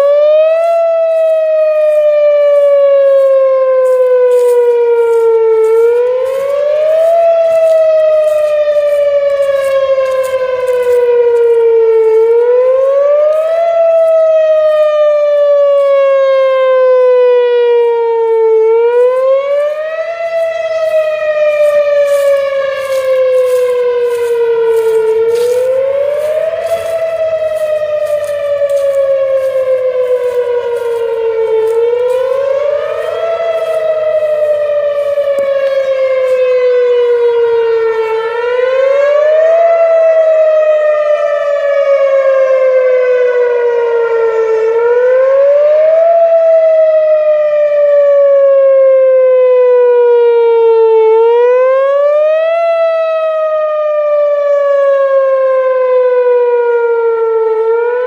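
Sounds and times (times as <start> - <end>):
warning siren rising and falling: 0.0 - 58.0.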